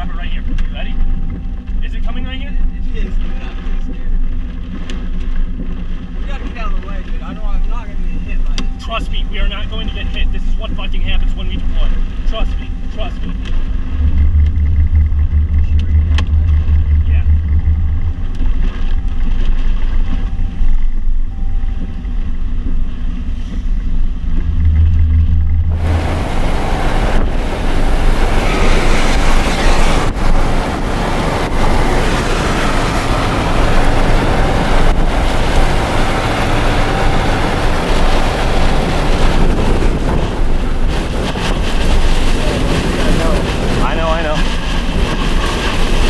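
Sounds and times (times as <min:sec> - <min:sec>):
loud wind blasting microphone: 0:00.0 - 0:46.0
vehicle rumble: 0:00.0 - 0:46.0.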